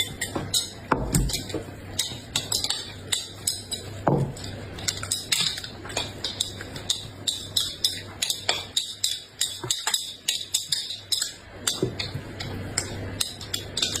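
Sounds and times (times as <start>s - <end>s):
cutlery clinking against dishes: 0.0s - 14.0s
low steady hum: 0.0s - 14.0s.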